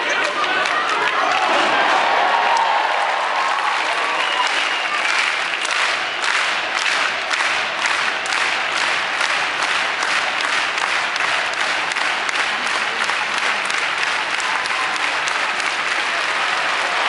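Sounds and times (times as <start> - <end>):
crowd clapping: 0.0 - 17.0
crowd noise: 0.0 - 17.0.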